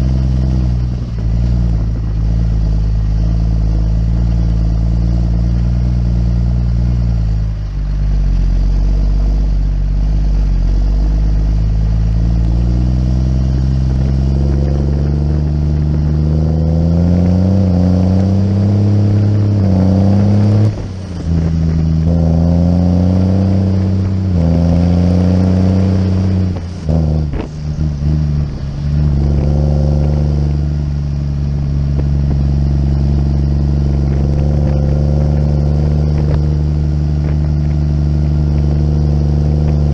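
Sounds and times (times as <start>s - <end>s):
tractor diesel engine driving: 0.0s - 39.9s.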